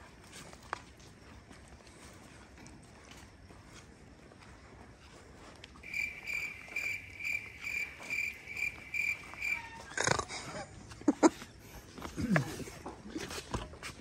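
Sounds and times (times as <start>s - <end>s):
cricket chirping: 0.0s - 12.9s.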